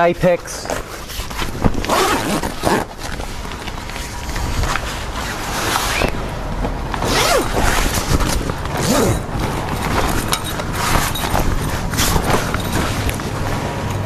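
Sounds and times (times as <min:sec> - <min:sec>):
canvas rustling and scraping: 0:00.2 - 0:14.0
zip rasping along canvas: 0:00.6 - 0:06.2, 0:07.0 - 0:13.2.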